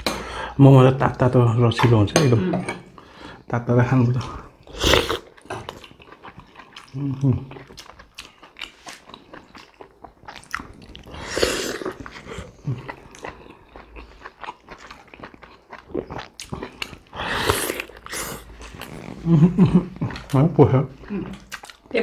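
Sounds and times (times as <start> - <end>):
people chewing wetly: 4.1 - 22.0.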